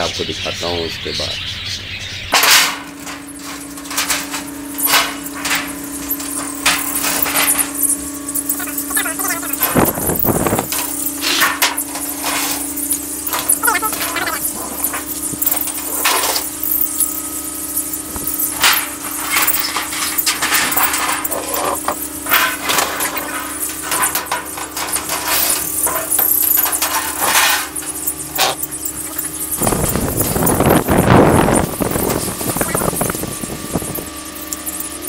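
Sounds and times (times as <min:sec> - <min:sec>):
steady low hum: 0:00.0 - 0:35.0
trays clattering against wire cages: 0:02.2 - 0:35.0.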